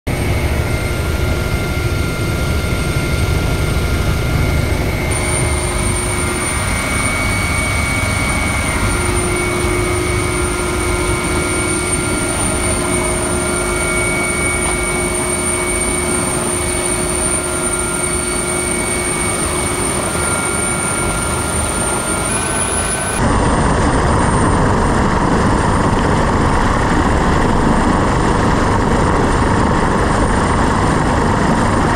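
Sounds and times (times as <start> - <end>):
helicopter rotor throb: 0.1 - 31.9
high turbine whine: 0.1 - 31.9.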